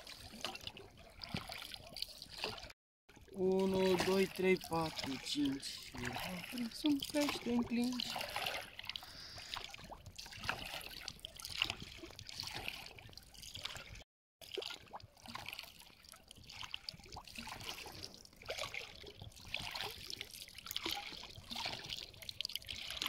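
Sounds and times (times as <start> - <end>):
water lapping against boat: 0.0 - 23.0.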